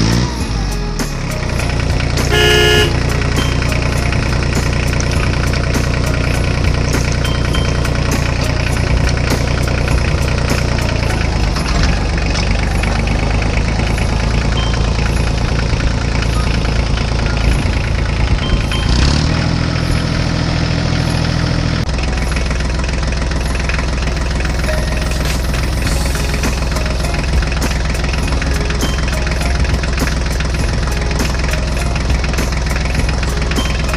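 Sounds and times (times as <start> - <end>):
diesel tractor engine idling: 0.0 - 33.9.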